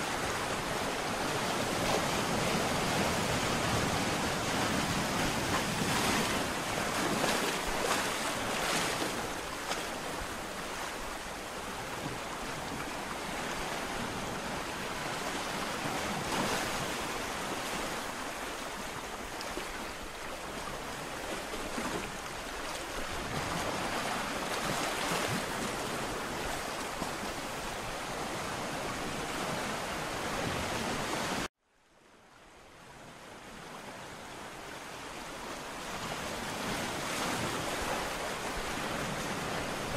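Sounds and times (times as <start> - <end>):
ocean waves breaking: 0.0 - 31.5, 32.8 - 39.9.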